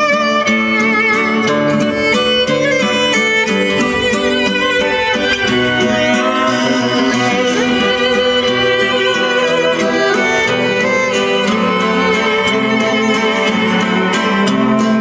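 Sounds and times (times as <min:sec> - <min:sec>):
violin melody: 0:00.0 - 0:15.0
steady beat: 0:00.7 - 0:14.8.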